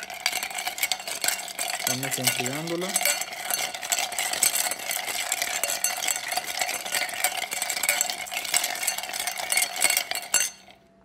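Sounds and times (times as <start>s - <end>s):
ice clinking in glass: 0.0s - 10.8s.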